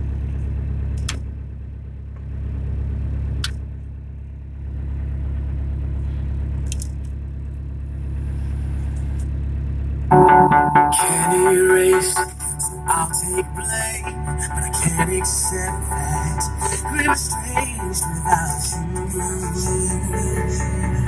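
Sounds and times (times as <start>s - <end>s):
diesel engine idling: 0.0s - 10.1s, 11.7s - 21.0s.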